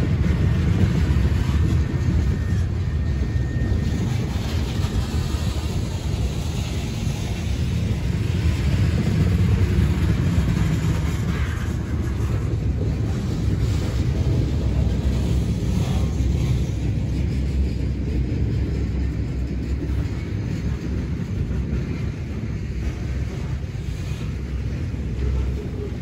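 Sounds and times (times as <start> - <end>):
steel wheels rumbling on rails: 0.0 - 26.0.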